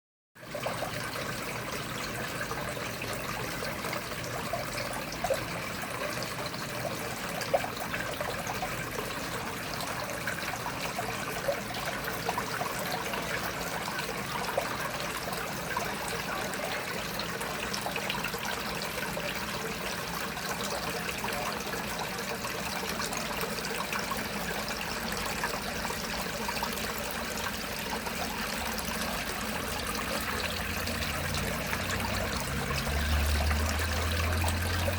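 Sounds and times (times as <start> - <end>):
water trickling: 0.4 - 34.9.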